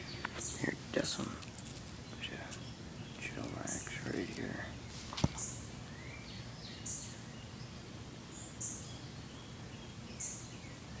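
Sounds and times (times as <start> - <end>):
high buzzy bird calls: 0.0 - 11.0
outdoor background hiss: 0.0 - 11.0.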